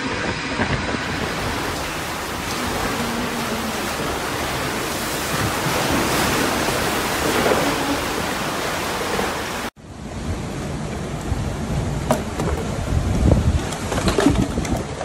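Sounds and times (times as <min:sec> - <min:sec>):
dull steady noise: 0:00.0 - 0:14.1
floodwater rushing: 0:00.0 - 0:15.0.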